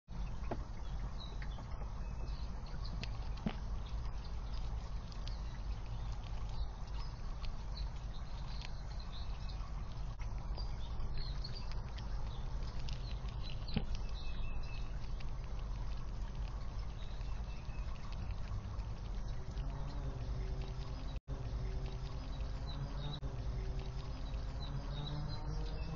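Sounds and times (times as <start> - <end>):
small birds chirping: 0.1 - 25.9
steady low hum: 0.1 - 25.9.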